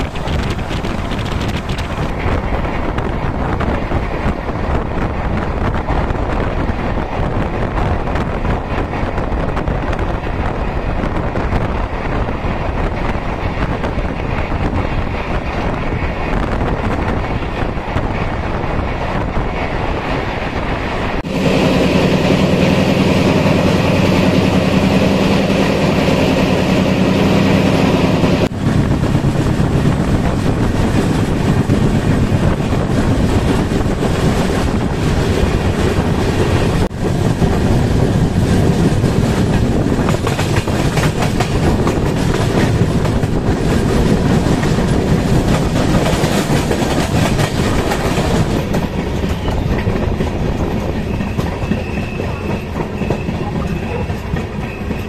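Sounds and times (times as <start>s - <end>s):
train running noise: 0.0s - 55.0s
wind on microphone: 0.0s - 55.0s.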